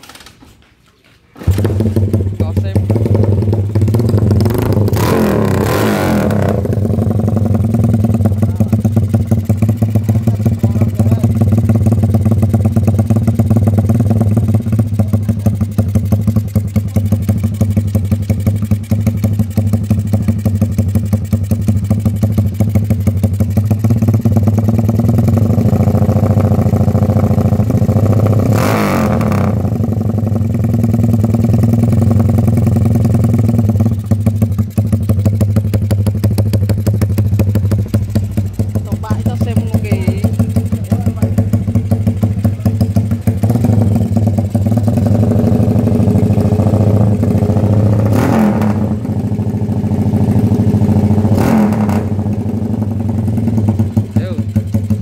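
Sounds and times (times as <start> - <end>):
motorcycle engine idling: 1.4 - 55.0.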